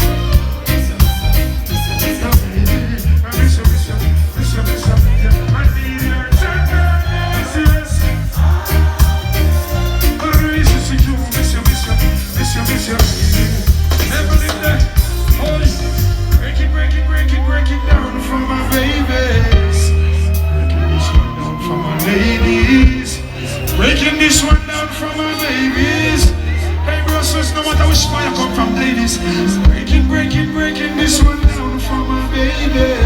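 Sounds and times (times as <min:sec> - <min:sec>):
live reggae band: 0:00.0 - 0:33.0
person singing: 0:02.0 - 0:33.0.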